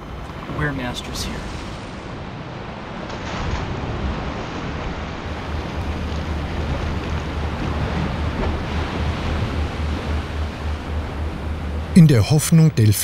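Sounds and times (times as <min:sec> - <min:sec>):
low pulsing rumble: 0:00.0 - 0:12.1
wind: 0:00.0 - 0:13.0
water churning and breaking: 0:00.4 - 0:12.3.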